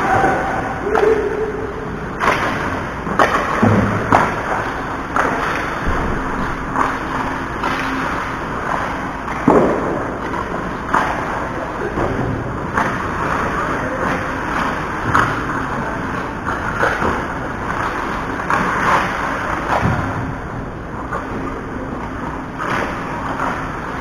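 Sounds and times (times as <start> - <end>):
steady rushing noise: 0.0 - 24.0
skates sticks and puck on ice: 1.9 - 24.0.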